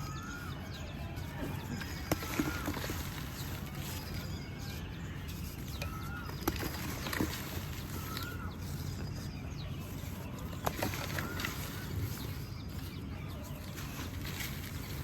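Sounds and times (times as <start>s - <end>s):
bird chirps: 0.0s - 15.0s
water trickling over pebbles: 0.0s - 15.0s.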